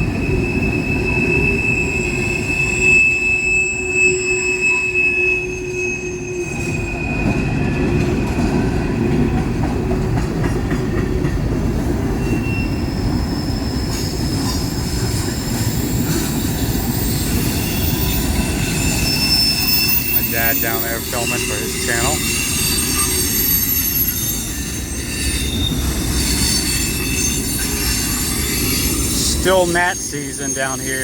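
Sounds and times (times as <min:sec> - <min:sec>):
high wheel squeal: 0:00.0 - 0:08.4, 0:12.2 - 0:31.0
train rumbling past on rails: 0:00.0 - 0:31.0.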